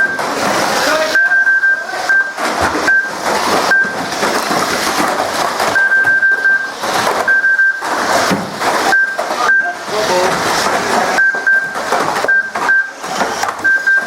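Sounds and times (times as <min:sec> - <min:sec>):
toy cars clattering and knocking: 0:00.0 - 0:14.0.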